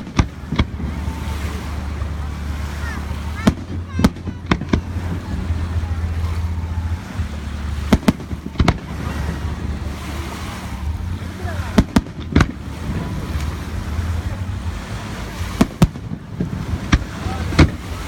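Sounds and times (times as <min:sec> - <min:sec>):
fireworks bangs: 0:00.0 - 0:18.0
steady low rumble: 0:00.0 - 0:18.0.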